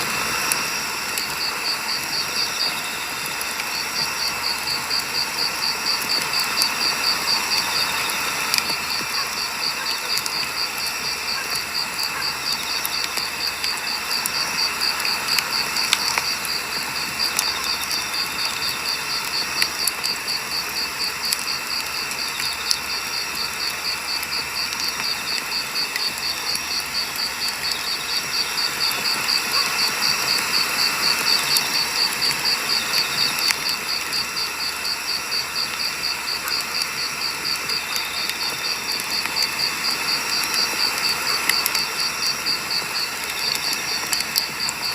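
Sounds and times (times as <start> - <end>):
campfire crackling and popping: 0.0 - 44.9
cricket chirping: 0.0 - 44.9.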